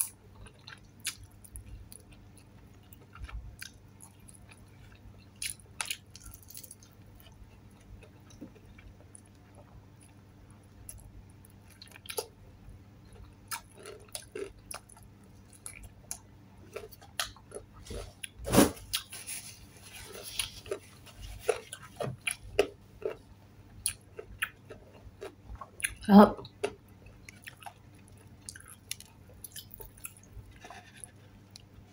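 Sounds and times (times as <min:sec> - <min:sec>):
person chewing: 0:00.0 - 0:10.2, 0:10.9 - 0:12.3, 0:13.0 - 0:23.2, 0:23.8 - 0:31.7.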